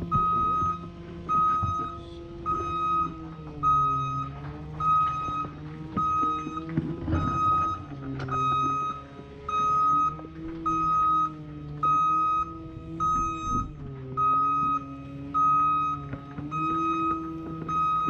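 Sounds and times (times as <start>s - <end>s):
reversing alarm beeping: 0.0s - 18.0s.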